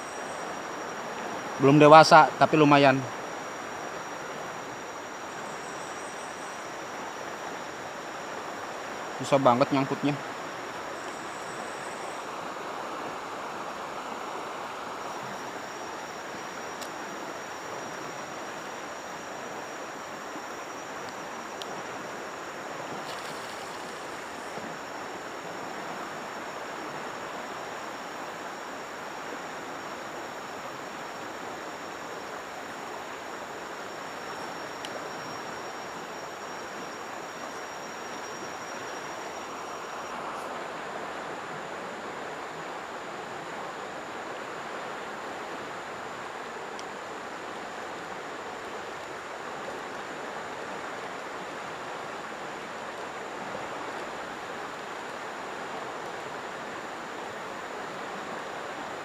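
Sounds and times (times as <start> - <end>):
river water rushing: 0.0 - 59.0
thin high whine: 0.0 - 59.0.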